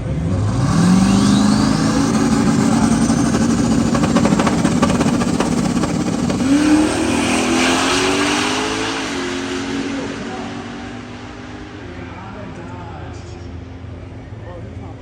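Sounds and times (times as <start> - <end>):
race car engine accelerating: 0.0 - 13.6.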